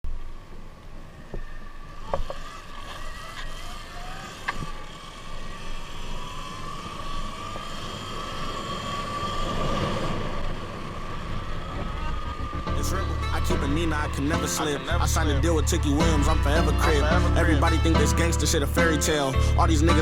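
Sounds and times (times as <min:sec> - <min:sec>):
electric motorbike motor whining: 0:00.5 - 0:20.0.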